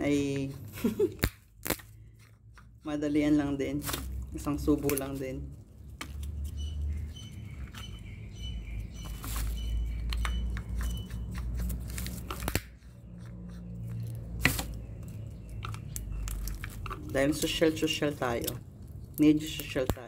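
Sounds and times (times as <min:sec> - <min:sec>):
walnut shell crackling: 0:00.1 - 0:20.0.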